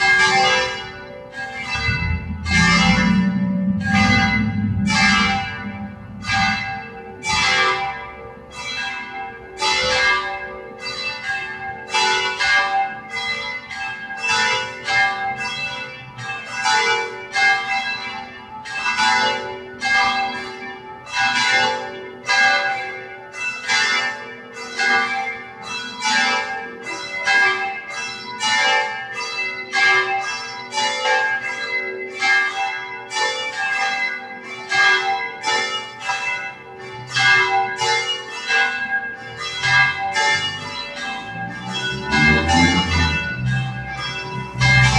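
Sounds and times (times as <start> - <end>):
church bells ringing: 0.0 - 44.9.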